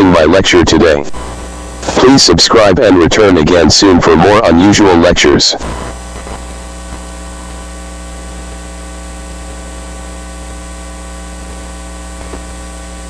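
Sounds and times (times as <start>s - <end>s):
electrical mains hum with hiss: 0.0s - 13.0s.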